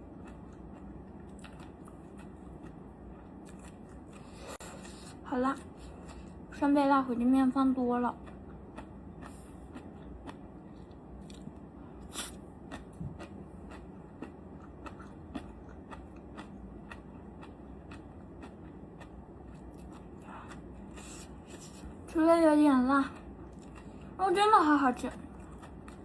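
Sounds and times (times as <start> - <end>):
person chewing crunchy food: 0.0 - 6.5, 8.2 - 22.0, 23.2 - 24.2, 25.1 - 26.0.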